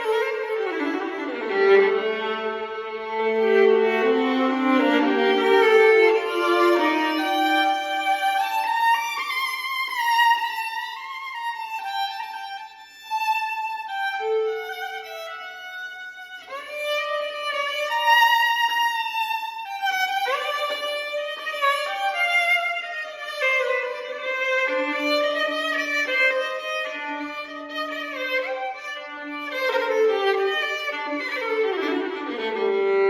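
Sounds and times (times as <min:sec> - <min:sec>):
solo violin melody: 0:00.0 - 0:33.0.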